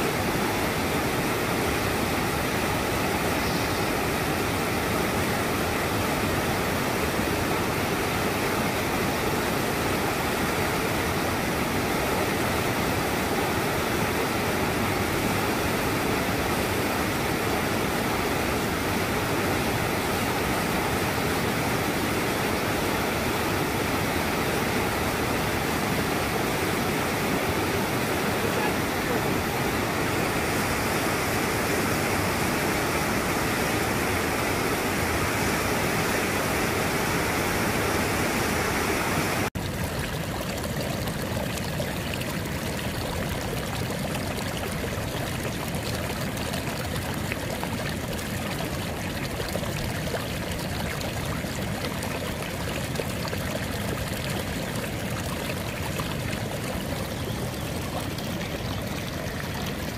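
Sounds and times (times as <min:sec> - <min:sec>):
stream rushing: 0:00.0 - 0:59.9.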